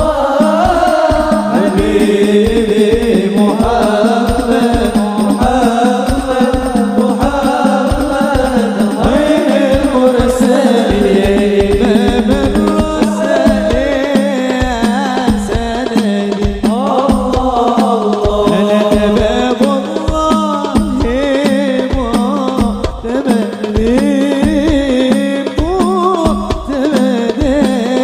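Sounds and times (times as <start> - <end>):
hand drums beating: 0.0 - 28.0
person singing devotional song: 0.0 - 28.0.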